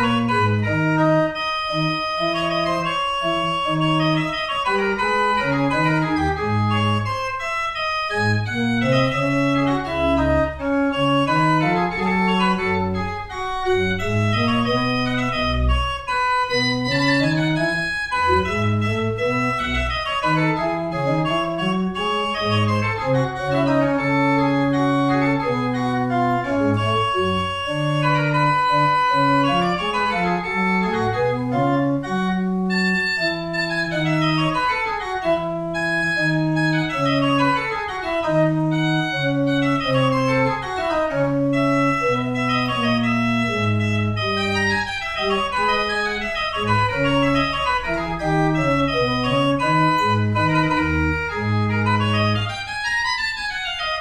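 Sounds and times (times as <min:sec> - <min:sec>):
pipe organ playing baroque piece: 0:00.0 - 0:54.0.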